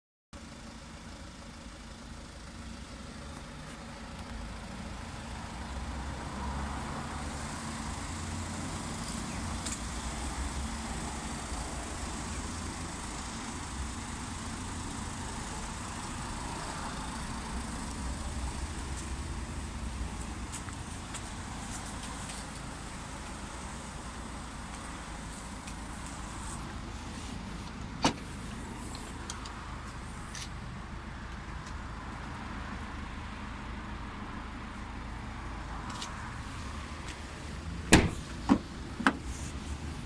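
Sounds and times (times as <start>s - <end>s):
diesel engine idling: 0.4s - 40.0s
outdoor noise: 0.4s - 40.0s.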